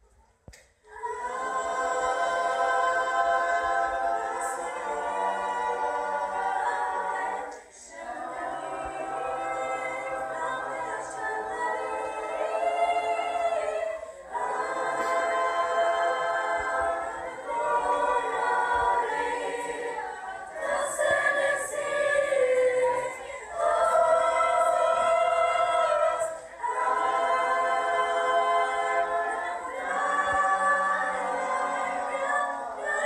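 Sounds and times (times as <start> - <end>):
school choir singing in parts: 0.9 - 33.0.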